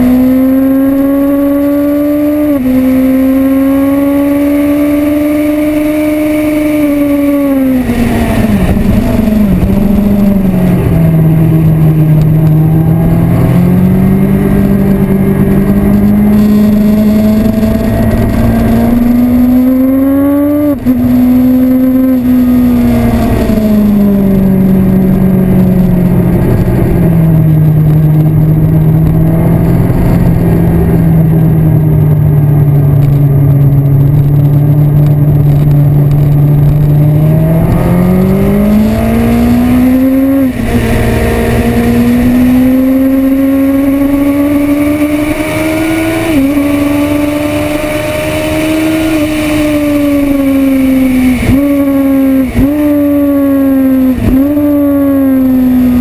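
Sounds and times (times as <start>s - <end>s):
sportbike engine accelerating: 0.0s - 56.0s.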